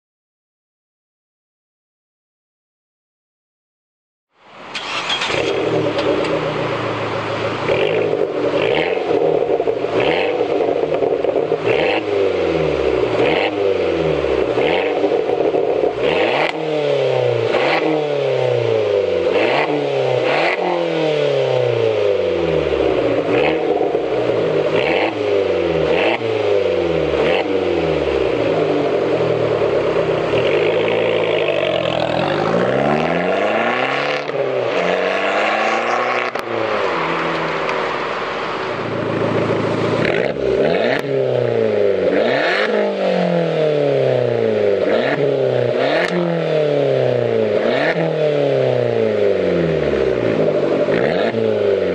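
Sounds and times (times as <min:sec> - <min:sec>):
car engine revving: 0:04.7 - 0:51.9.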